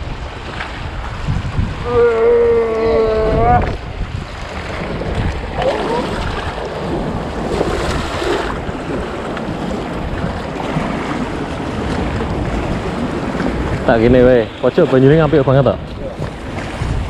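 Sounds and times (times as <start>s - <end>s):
waves washing against concrete: 0.0s - 17.0s
wind buffeting microphone: 0.0s - 17.0s.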